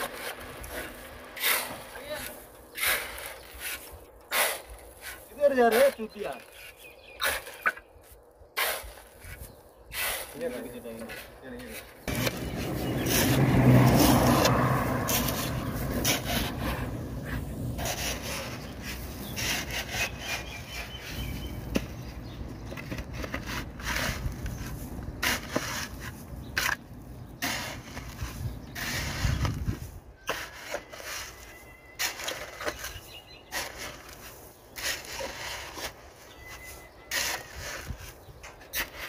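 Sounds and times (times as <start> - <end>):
shovel scraping gravelly soil: 0.0 - 39.0.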